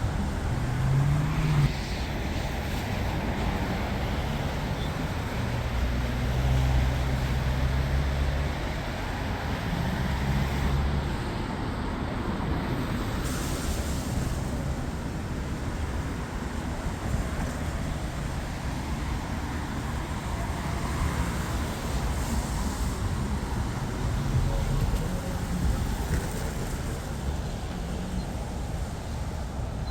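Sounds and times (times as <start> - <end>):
passing vehicles rumbling: 0.0 - 29.9
traffic hiss: 0.0 - 29.9.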